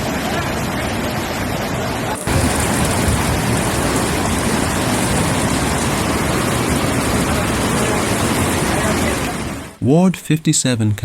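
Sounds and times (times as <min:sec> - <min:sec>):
floodwater rushing: 0:00.0 - 0:09.8.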